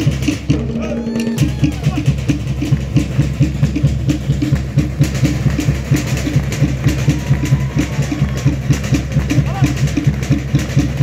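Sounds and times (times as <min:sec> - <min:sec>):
fast steady drumming: 0:00.0 - 0:11.0.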